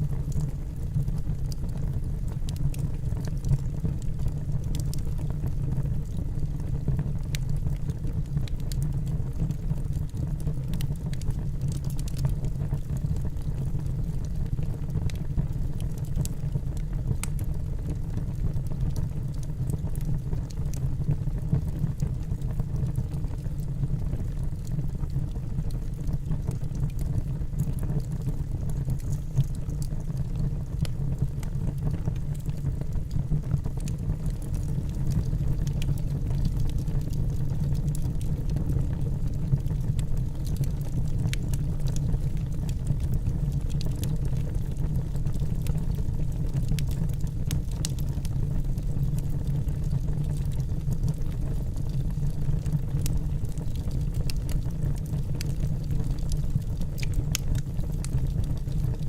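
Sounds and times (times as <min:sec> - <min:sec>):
burning wood crackling and popping: 0:00.0 - 0:59.0
low rumble of flames: 0:00.0 - 0:59.0.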